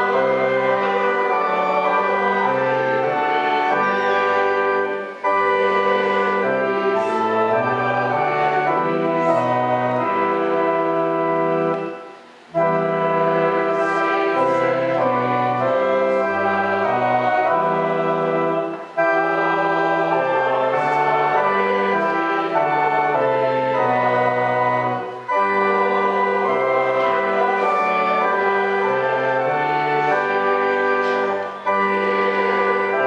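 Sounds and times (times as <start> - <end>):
church organ chords: 0.0 - 33.0.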